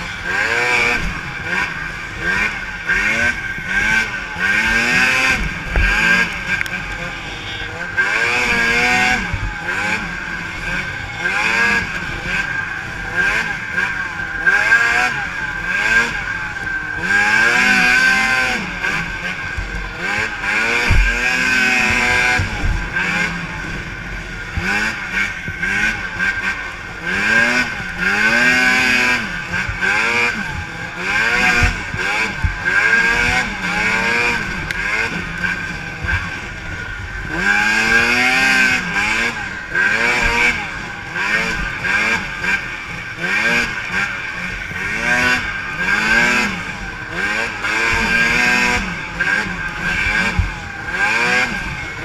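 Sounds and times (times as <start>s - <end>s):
snowmobile engines revving: 0.0s - 52.0s.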